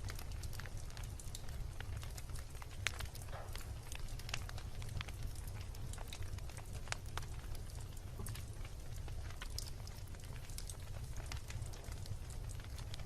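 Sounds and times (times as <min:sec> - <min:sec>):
bonfire crackling and rumbling: 0:00.0 - 0:13.0.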